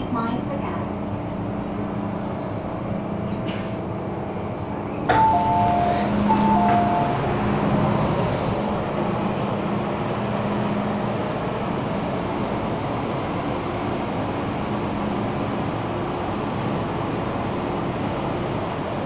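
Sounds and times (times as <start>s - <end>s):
train and station hum: 0.0s - 19.0s.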